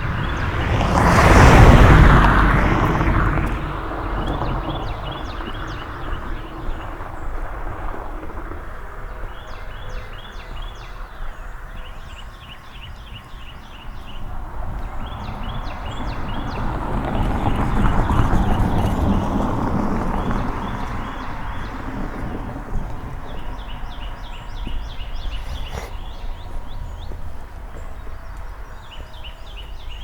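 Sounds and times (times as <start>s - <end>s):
songbird singing: 0.0s - 7.6s, 9.0s - 30.0s
passing vehicle: 0.0s - 30.0s.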